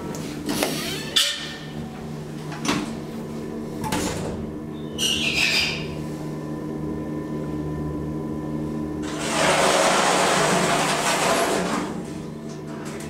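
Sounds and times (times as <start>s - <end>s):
elevator drive humming: 0.0s - 13.0s.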